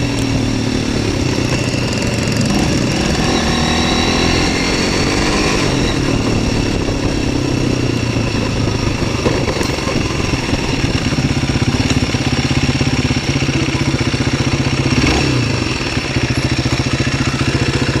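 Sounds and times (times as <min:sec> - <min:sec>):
motorcycle engine pulsing: 0:00.0 - 0:18.0.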